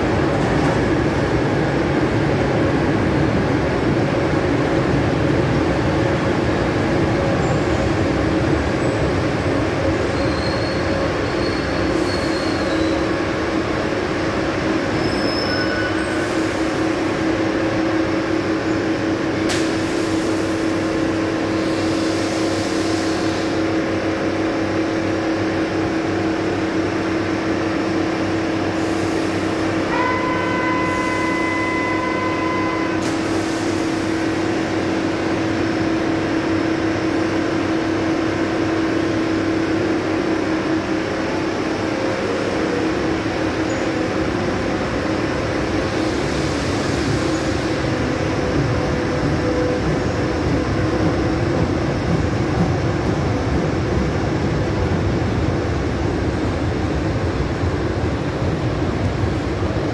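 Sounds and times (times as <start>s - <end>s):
subway train rumbling to a stop: 0.0s - 59.9s
train hum: 0.0s - 59.9s.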